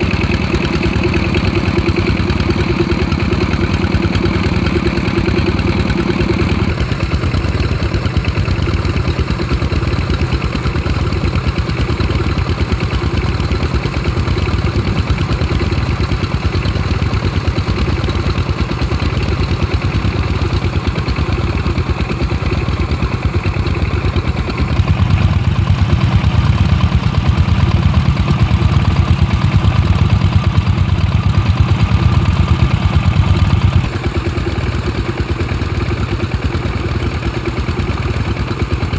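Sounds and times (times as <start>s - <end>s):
diesel engines chugging: 0.0s - 38.9s.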